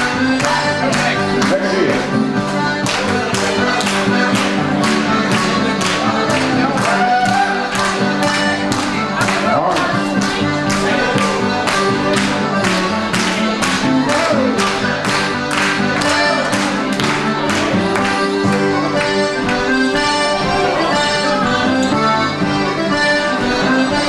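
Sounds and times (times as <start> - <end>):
accordion playing dance tune: 0.0 - 24.0.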